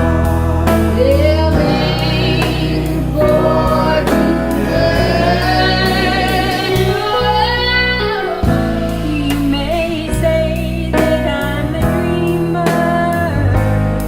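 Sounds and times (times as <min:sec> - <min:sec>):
pop song with singing: 0:00.0 - 0:13.8.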